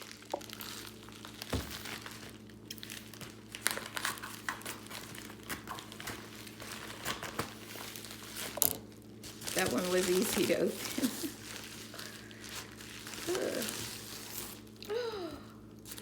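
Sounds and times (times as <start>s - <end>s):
package packaging crinkling and tearing: 0.0s - 15.0s, 15.8s - 16.0s.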